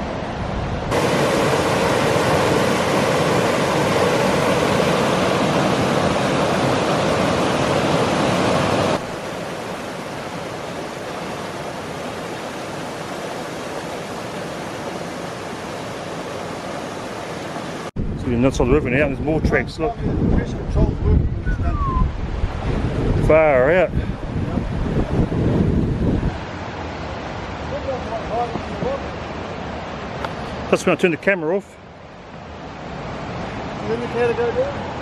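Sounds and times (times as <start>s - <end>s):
river water rushing: 0.0s - 17.9s, 23.6s - 35.0s.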